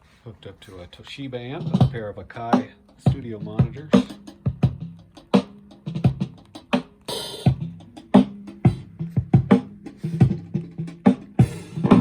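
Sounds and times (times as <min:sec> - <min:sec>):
drum-heavy music with bass line: 0:00.6 - 0:12.0.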